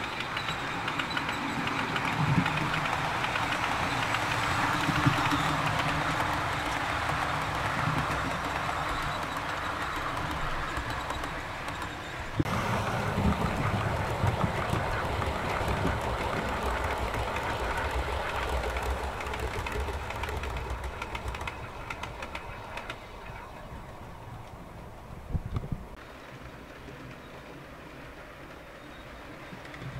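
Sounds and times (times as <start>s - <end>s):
model train running: 0.0s - 25.3s
wheels clicking on track: 0.0s - 29.9s.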